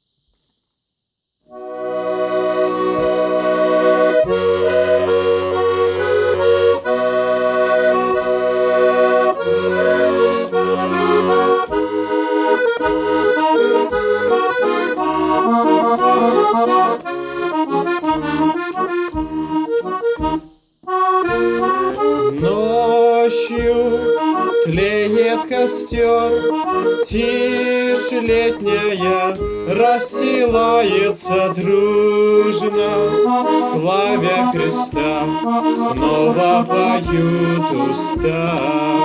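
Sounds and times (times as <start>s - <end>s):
accordion playing hymn: 1.5s - 39.0s.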